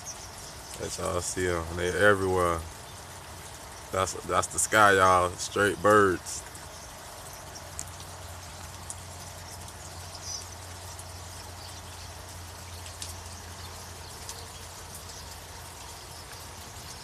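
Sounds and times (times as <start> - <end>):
low hum and hiss: 0.0 - 17.0
small birds chirping: 0.0 - 17.0.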